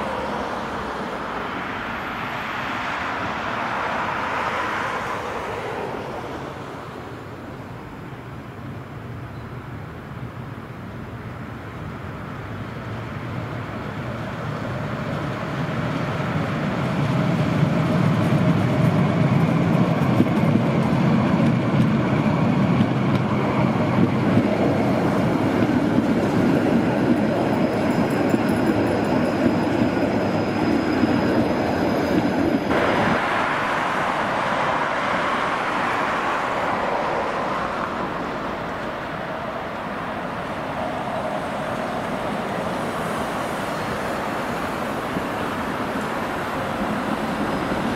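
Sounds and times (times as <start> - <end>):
traffic noise: 0.0 - 47.9
tram wheels rumbling on track: 0.0 - 47.9.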